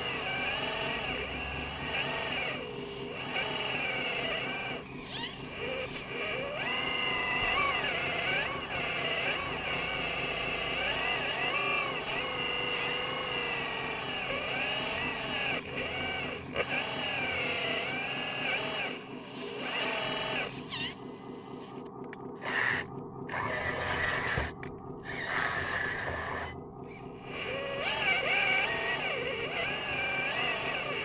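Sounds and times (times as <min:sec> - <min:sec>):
electric motor whine: 0:00.0 - 0:31.0.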